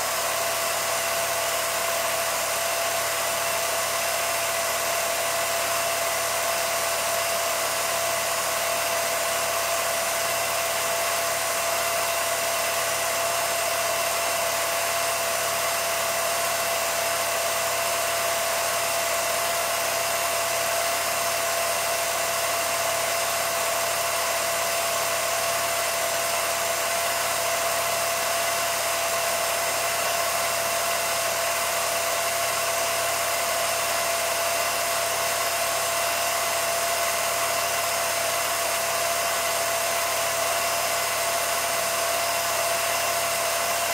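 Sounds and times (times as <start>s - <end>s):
film projector whirring: 0.0s - 43.9s.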